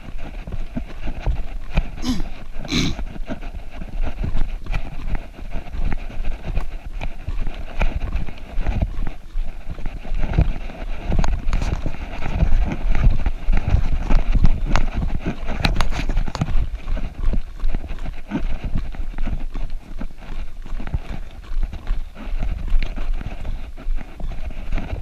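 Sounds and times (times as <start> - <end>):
running footfalls on dirt trail: 0.0 - 25.0.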